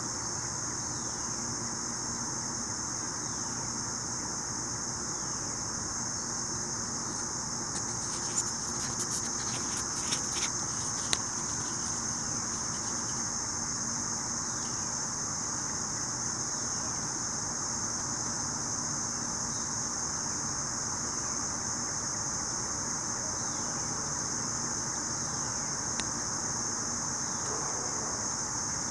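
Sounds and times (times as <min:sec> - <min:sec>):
insects chorus: 0:00.0 - 0:28.9.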